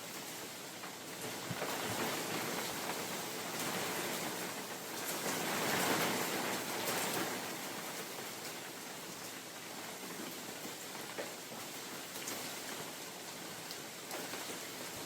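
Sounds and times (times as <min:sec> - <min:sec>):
rain falling on forest: 0:00.0 - 0:15.0
wind gusting through trees: 0:00.0 - 0:15.0.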